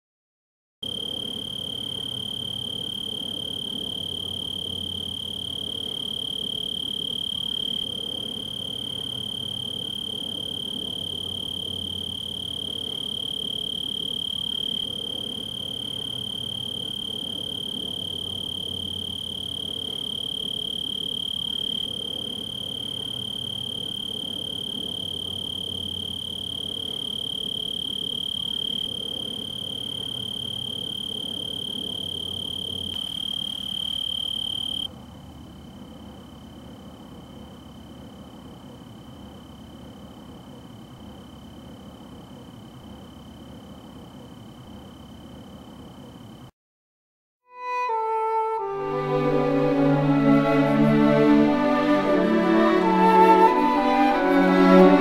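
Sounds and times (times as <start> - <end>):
tree cricket trilling: 0.8 - 46.5.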